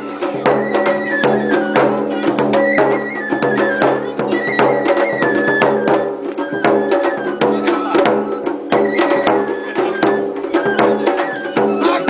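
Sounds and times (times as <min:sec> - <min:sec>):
big drum struck in rhythm: 0:00.0 - 0:12.0
high melody: 0:00.0 - 0:12.0.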